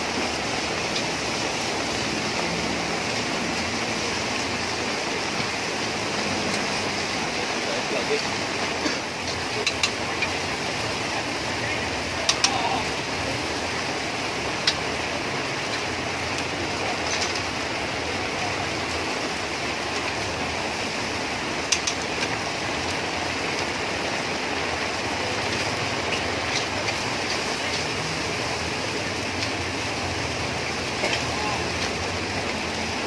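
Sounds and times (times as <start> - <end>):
noodles frying in a wok: 0.0 - 33.0.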